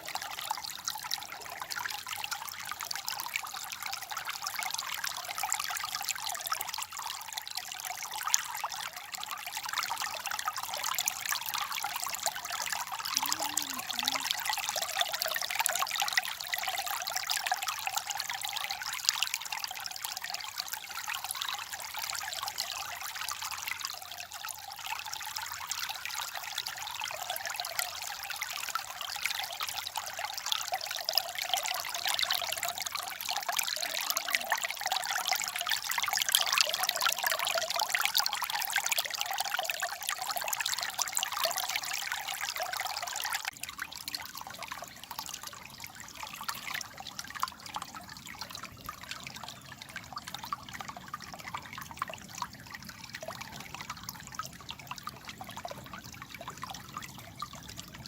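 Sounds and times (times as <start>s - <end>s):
water babbling in a stream: 0.0s - 58.0s.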